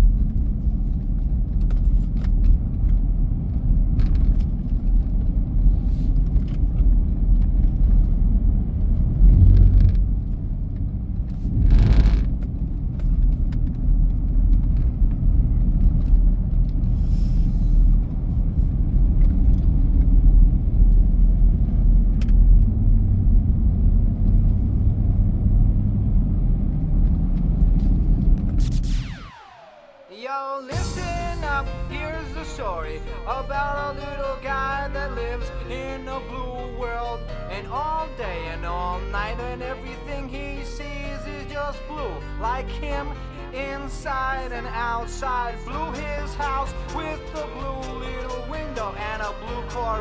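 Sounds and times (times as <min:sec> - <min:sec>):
car road rumble: 0:00.0 - 0:30.0, 0:30.7 - 0:50.0.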